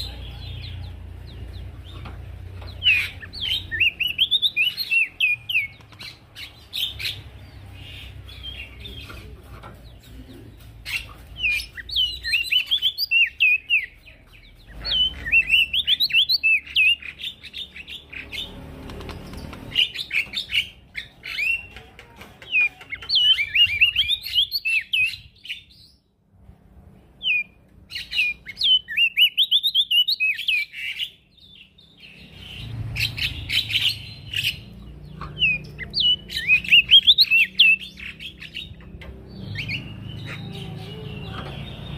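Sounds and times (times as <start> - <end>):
songbird warbling chirps: 0.0 - 9.1, 9.9 - 18.6, 22.6 - 26.0, 27.2 - 41.9.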